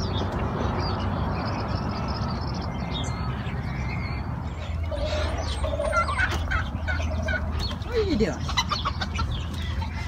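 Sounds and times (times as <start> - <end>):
farmyard birds calling: 0.0 - 10.0.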